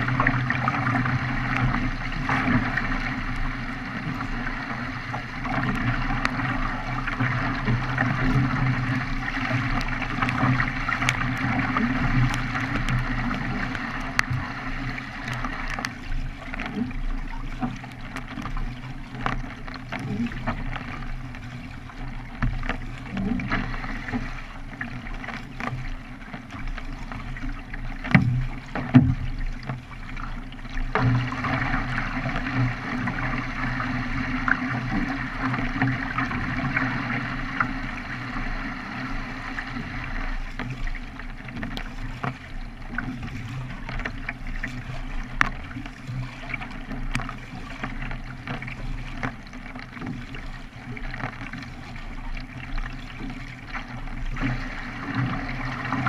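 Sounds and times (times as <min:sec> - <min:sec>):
paddle splashing: 0:00.0 - 0:56.0
water rushing past hull: 0:00.0 - 0:56.0.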